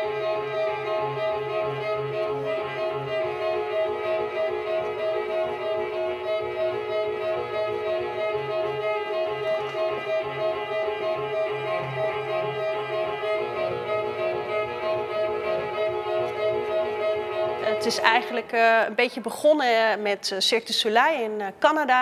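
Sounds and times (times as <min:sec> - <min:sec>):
violin and cello music: 0:00.0 - 0:19.0.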